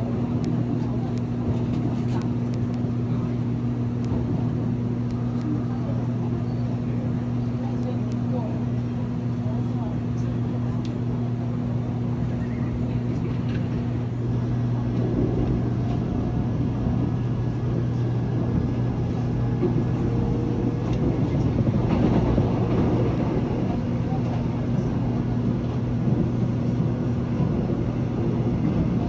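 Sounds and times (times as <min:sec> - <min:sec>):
constant low hum: 0:00.0 - 0:29.0
train wheels rumbling on track: 0:00.0 - 0:29.0.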